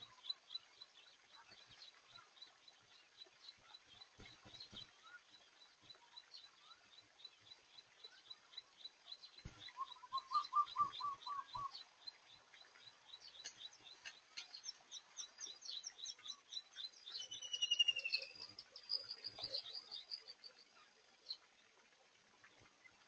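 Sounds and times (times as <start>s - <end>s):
bird trill: 0.0s - 20.5s
small birds chirping: 0.0s - 23.0s.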